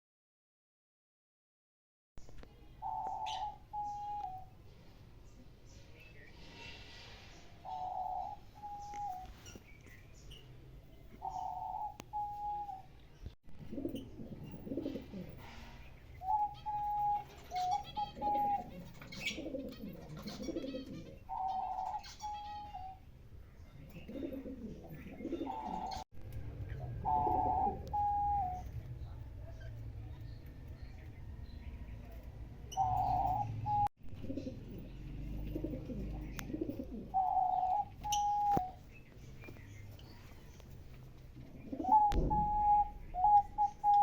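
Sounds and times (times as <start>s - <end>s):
faint bird chirps: 2.2s - 14.6s, 15.2s - 40.8s, 41.6s - 44.0s
birds cooing: 2.8s - 4.6s, 7.6s - 9.6s, 11.1s - 13.0s, 13.6s - 44.0s.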